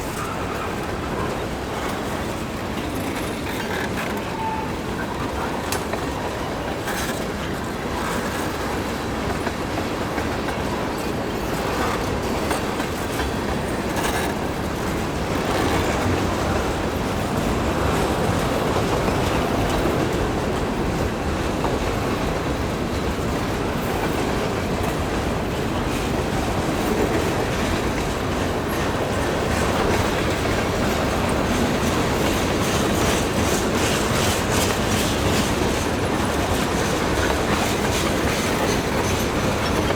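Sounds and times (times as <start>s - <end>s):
freight train wheels clicking: 0.0s - 39.9s.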